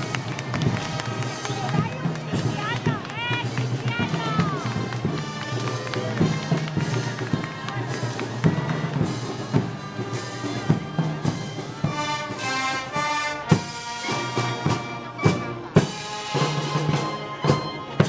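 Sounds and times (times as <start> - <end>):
brass band march music: 0.0 - 18.0.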